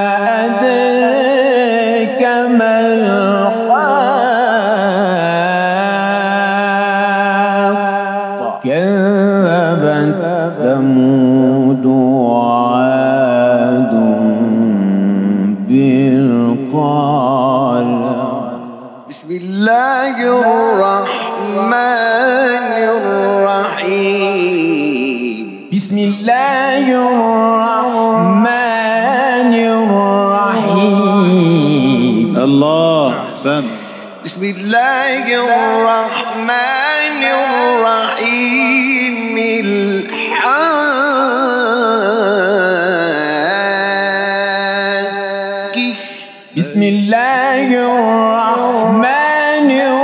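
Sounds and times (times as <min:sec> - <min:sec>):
man chanting recitation: 0:00.0 - 0:50.0.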